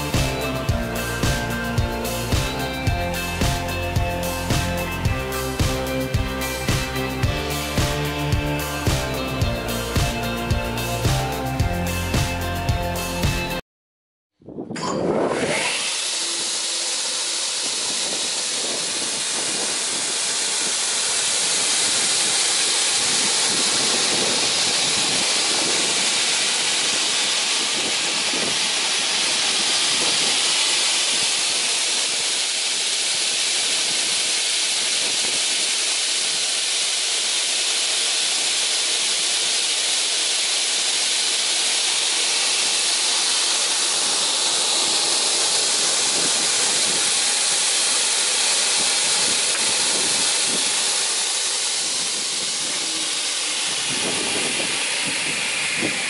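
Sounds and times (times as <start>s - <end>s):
panel saw running: 0.0s - 13.4s, 15.1s - 56.0s.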